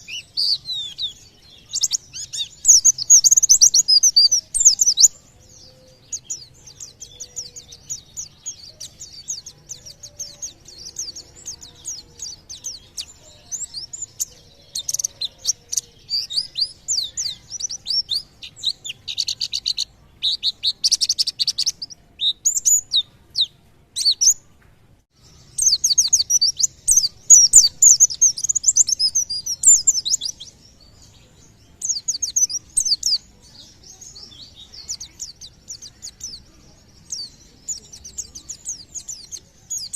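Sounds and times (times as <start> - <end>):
bird chirping and trilling: 0.0 - 24.5, 25.2 - 39.9.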